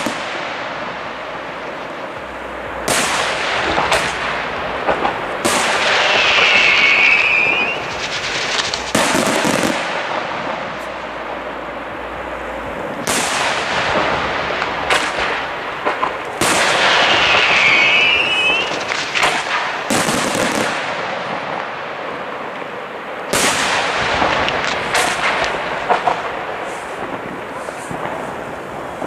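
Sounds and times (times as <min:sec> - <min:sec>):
firework whistling: 0:00.0 - 0:21.8, 0:23.2 - 0:29.0
firework shells bursting and crackling: 0:00.0 - 0:29.0.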